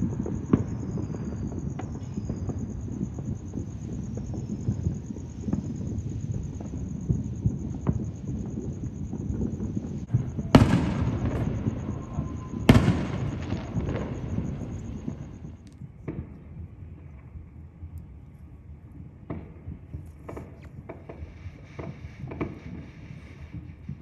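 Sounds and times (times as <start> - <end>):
loud firework booms: 0.0 - 17.3, 19.2 - 24.0
fireworks rumbling and crackling: 0.0 - 24.0.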